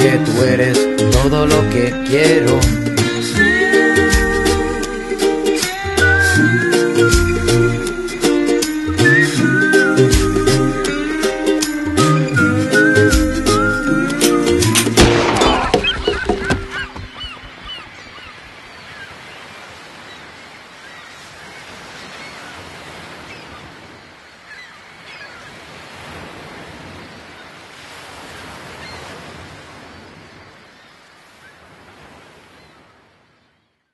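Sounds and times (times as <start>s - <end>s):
sea waves washing in: 0.0s - 33.4s.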